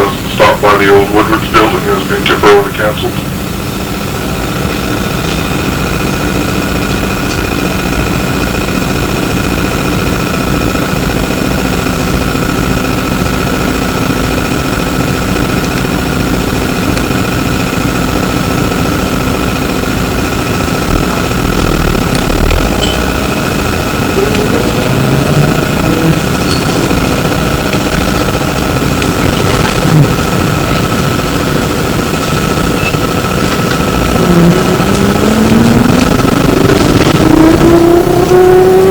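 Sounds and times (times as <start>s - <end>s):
high-pitched whine: 0.0s - 38.9s
trolleybus interior rumble: 0.0s - 38.9s.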